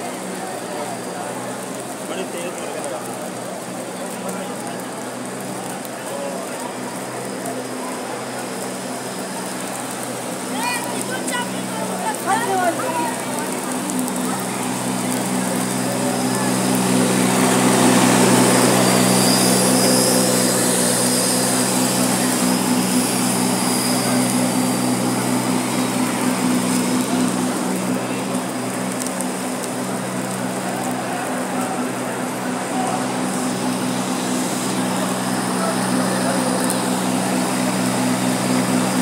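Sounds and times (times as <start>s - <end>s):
floor scrubber motor hum: 7.5s - 39.0s.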